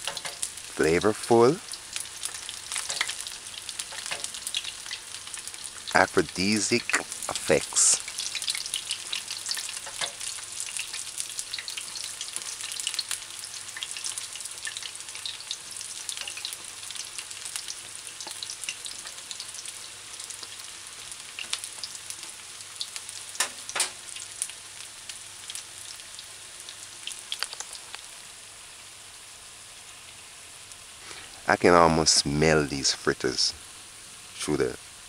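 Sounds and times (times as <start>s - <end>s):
fritters sizzling in oil: 0.0s - 31.5s.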